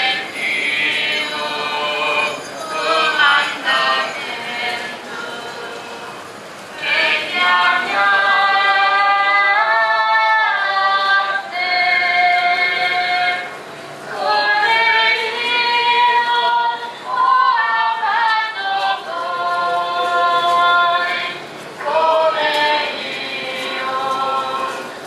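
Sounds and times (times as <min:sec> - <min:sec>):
group singing a hymn: 0:00.0 - 0:25.0.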